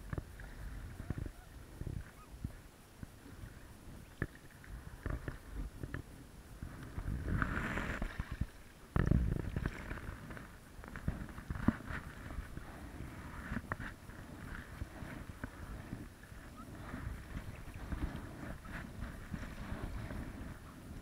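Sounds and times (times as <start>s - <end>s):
water swishing around paddle: 0.0s - 21.0s.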